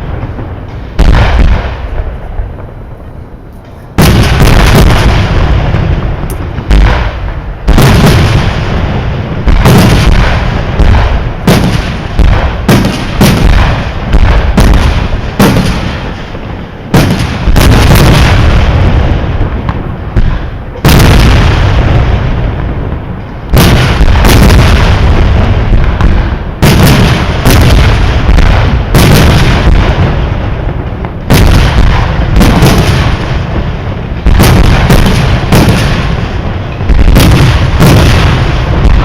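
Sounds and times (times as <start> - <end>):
fireworks bangs with echo: 0.0 - 39.0.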